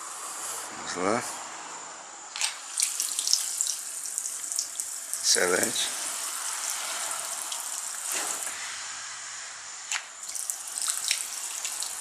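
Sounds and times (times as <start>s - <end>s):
water rushing through valve: 2.4s - 12.0s.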